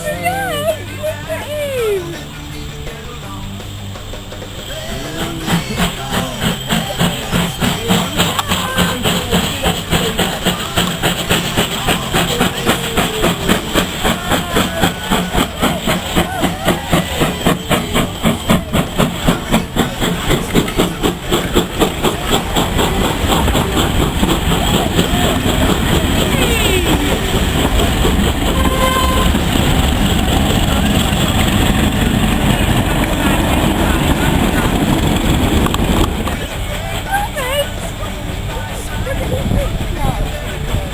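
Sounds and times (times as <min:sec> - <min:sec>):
crowd voices: 0:00.0 - 0:40.9
steam locomotive chuffing: 0:00.0 - 0:40.9.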